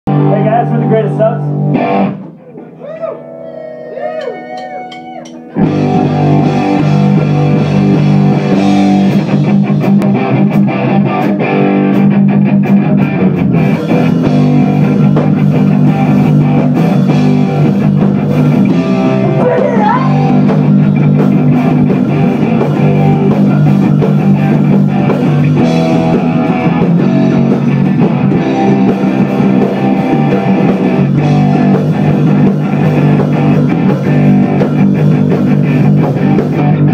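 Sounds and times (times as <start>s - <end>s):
electric guitar bending notes: 0.1s - 36.9s
live rock band with drums: 0.1s - 36.9s.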